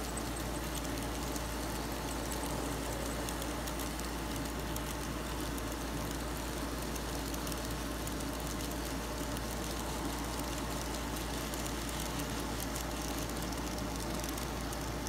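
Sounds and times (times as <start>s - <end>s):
constant low hum: 0.0s - 15.0s
faint ticking: 0.0s - 15.0s
model train wheels rolling on track: 0.0s - 15.0s.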